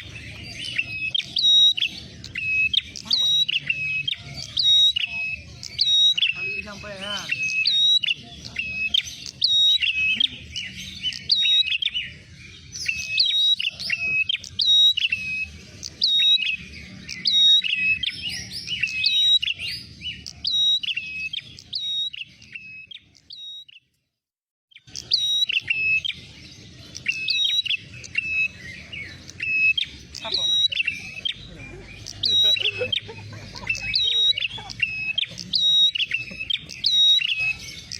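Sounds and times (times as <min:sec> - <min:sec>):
bird rapid chirping: 0:00.0 - 0:23.9, 0:24.7 - 0:37.9.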